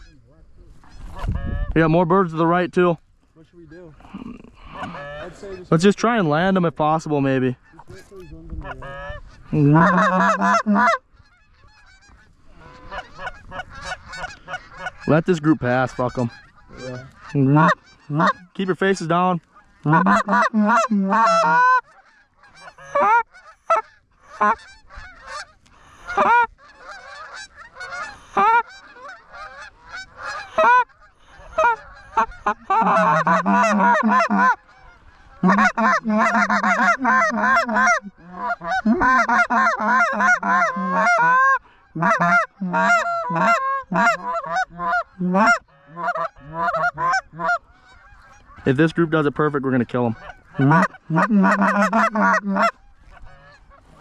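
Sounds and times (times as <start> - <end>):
geese honking and clucking: 0.0 - 54.0.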